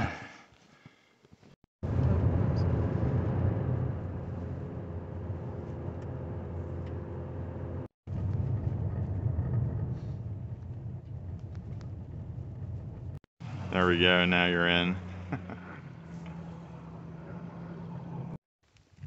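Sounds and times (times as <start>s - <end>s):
car engine and tyre rumble: 1.8s - 18.8s.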